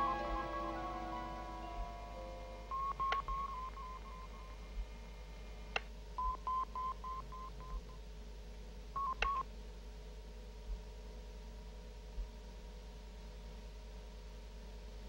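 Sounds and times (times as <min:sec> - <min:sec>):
faint electronic hum: 0:00.0 - 0:15.0.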